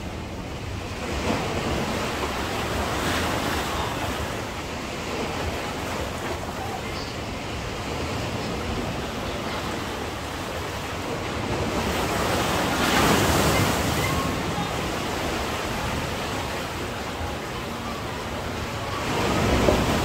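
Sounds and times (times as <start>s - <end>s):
sea surf washing onto beach: 0.0s - 20.0s
wave breaking: 0.0s - 20.0s.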